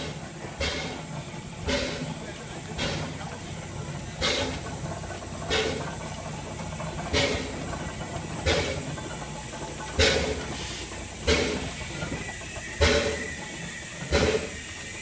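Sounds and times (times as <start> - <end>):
steam locomotive chuffs: 0.0 - 15.0.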